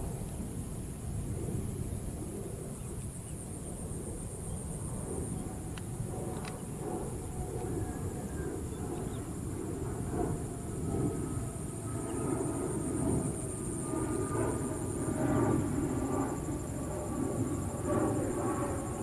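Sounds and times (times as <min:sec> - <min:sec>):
faint jet whine: 0:00.0 - 0:19.0
insects chirring: 0:00.0 - 0:19.0
jet engines rumbling: 0:00.0 - 0:19.0.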